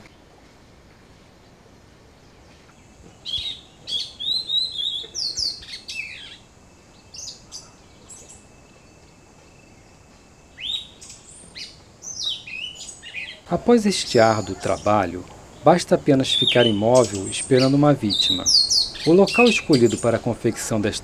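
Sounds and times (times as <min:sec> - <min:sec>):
birds chirping and whistling: 0:02.8 - 0:21.0.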